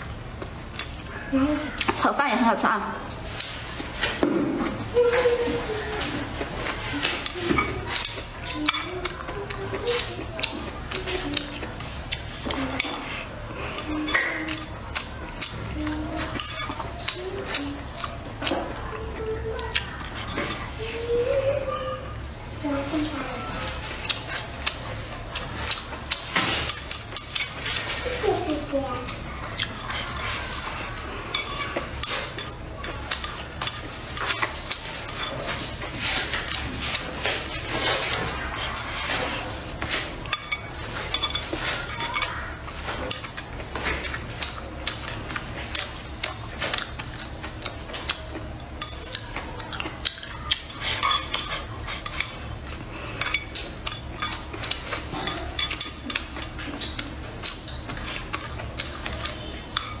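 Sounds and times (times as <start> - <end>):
close-up chewing: 0.0 - 2.0, 3.0 - 60.0.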